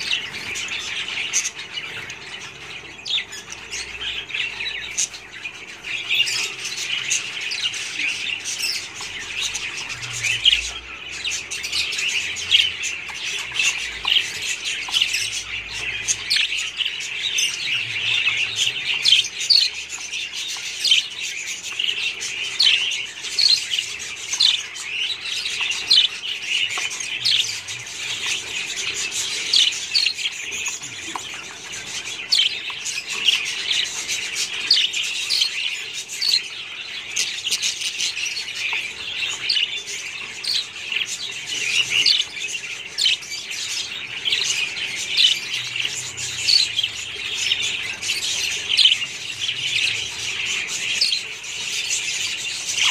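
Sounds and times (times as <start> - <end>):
budgerigars chirping and squawking: 0.0 - 52.9.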